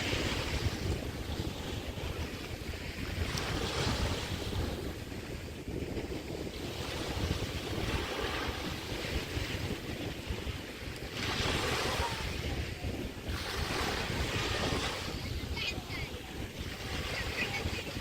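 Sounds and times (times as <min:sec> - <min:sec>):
waves breaking on beach: 0:00.0 - 0:18.0
wind buffeting microphone: 0:00.0 - 0:18.0.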